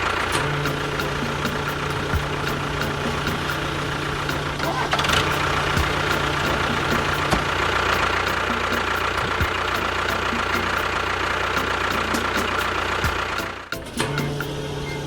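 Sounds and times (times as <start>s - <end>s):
engine idling with whine: 0.0s - 15.0s.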